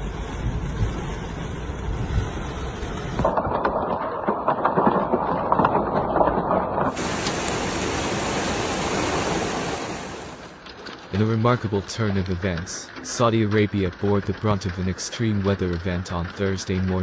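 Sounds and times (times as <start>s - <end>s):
heavy rain pouring: 0.0s - 17.0s
rapid crackling patter of rain: 0.0s - 17.0s.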